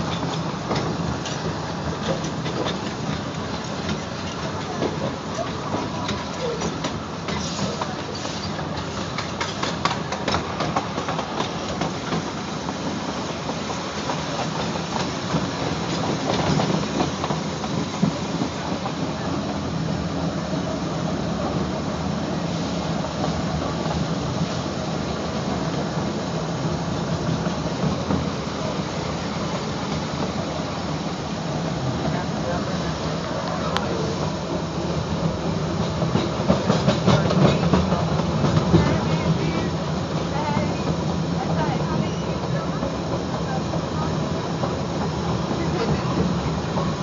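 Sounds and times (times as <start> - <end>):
train wheels rattling on rails: 0.0 - 47.0.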